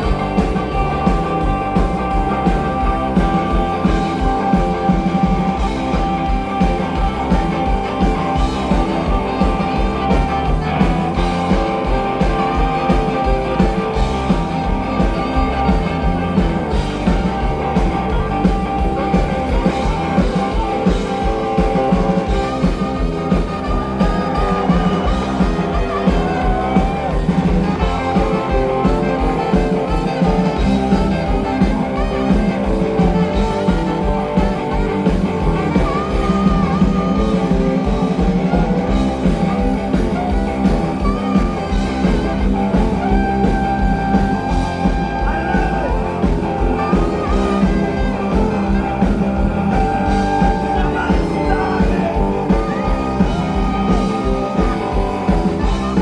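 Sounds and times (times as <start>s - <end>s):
electric guitar: 0.0s - 56.0s
live rock band playing: 0.0s - 56.0s
steady drum beat: 0.0s - 56.0s.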